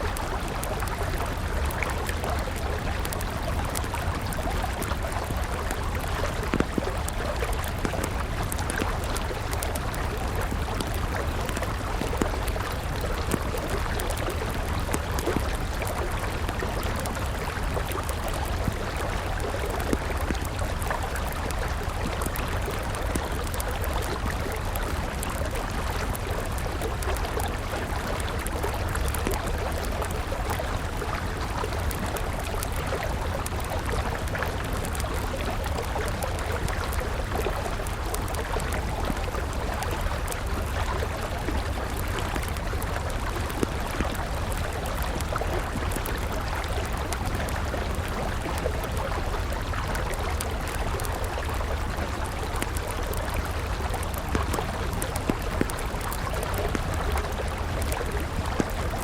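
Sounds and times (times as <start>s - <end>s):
campfire crackling: 0.0s - 59.0s
river flowing: 0.0s - 59.0s.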